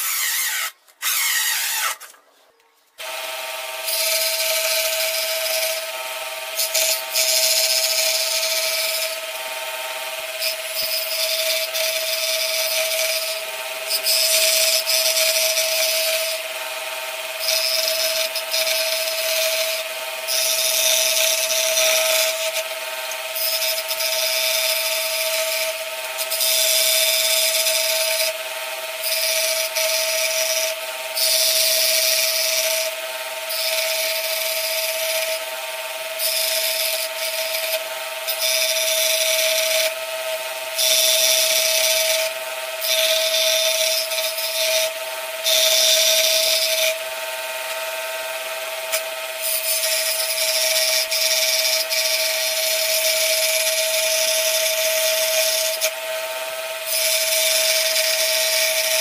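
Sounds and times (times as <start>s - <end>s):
saw blade rasping through wood: 0.0s - 2.2s, 3.0s - 59.0s
scroll saw motor humming: 0.0s - 2.2s, 3.0s - 59.0s.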